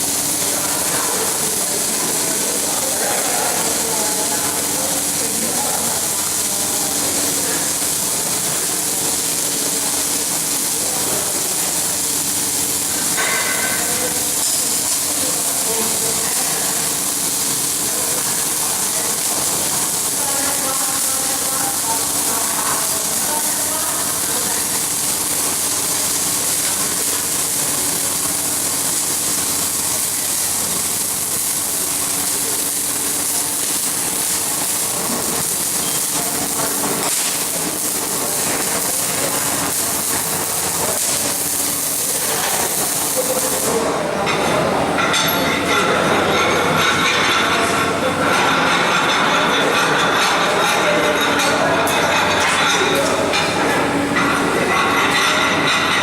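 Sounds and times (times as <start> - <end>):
welding arc hissing: 0.0 - 56.0.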